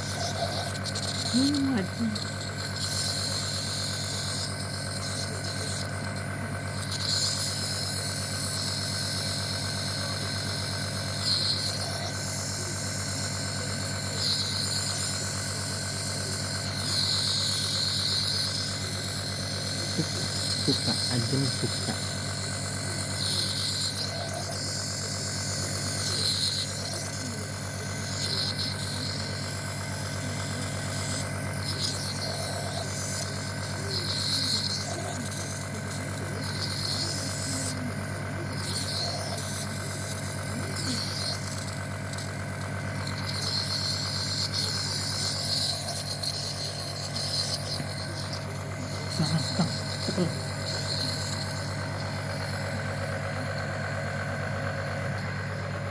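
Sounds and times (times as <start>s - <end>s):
engine idling hum: 0.0s - 55.9s.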